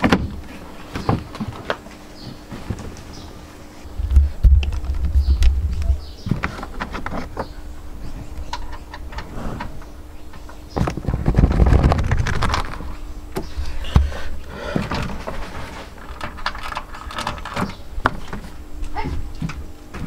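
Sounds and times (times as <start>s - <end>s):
deep rumbling handling noise: 0.0s - 20.0s.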